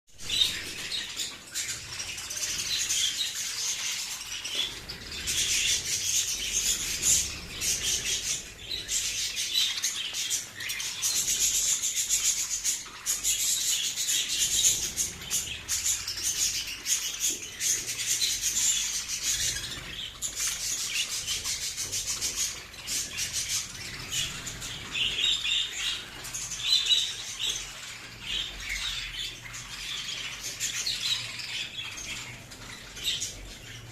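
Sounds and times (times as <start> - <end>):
budgerigars chattering: 0.2 - 33.9.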